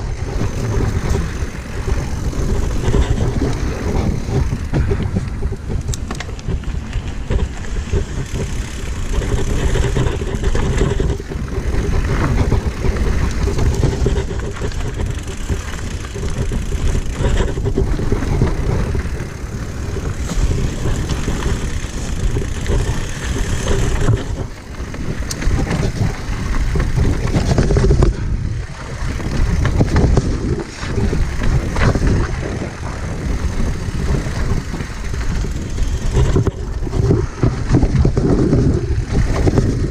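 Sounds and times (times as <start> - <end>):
bike knocks and rattles: 0.0 - 39.9
tyres rumbling on rough ground: 0.0 - 39.9
wind buffeting microphone: 0.0 - 39.9.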